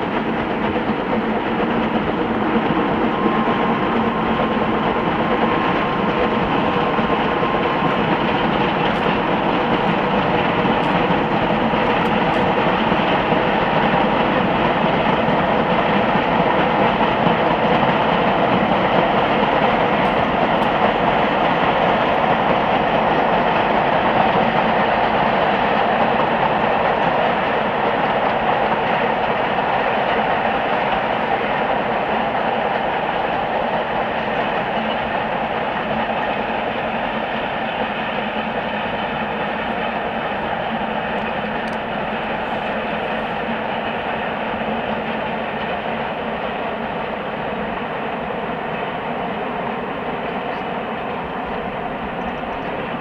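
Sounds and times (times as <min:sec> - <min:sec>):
distant steam train: 0:00.0 - 0:53.0.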